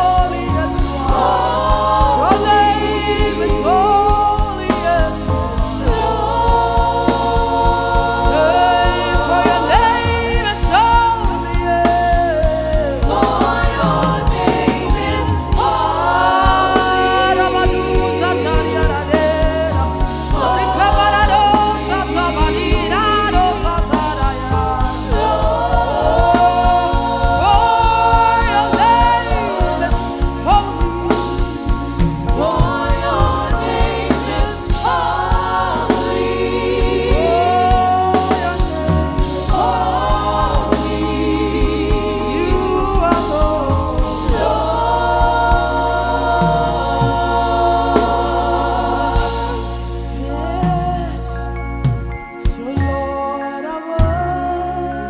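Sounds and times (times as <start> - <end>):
band with bass line: 0.0 - 55.0
choir singing: 0.0 - 55.0
voices singing with vibrato: 0.0 - 55.0.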